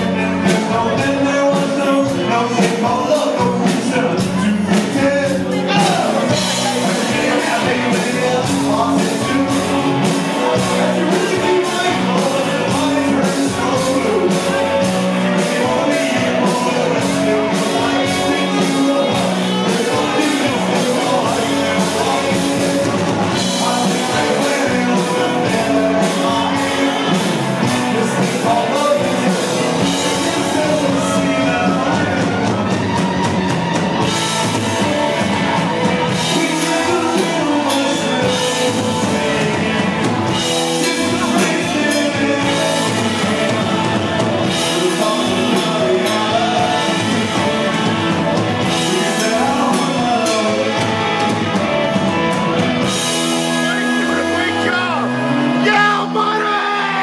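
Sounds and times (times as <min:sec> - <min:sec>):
drum kit with cymbal hits: 0:00.0 - 0:57.0
electric guitars: 0:00.0 - 0:57.0
lead vocal: 0:00.0 - 0:57.0.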